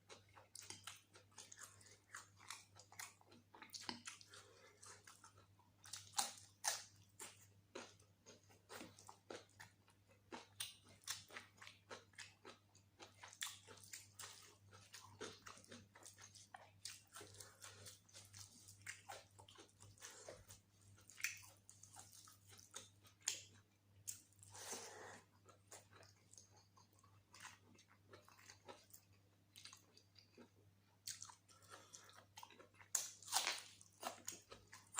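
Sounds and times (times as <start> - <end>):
person chewing food: 0.0 - 34.9.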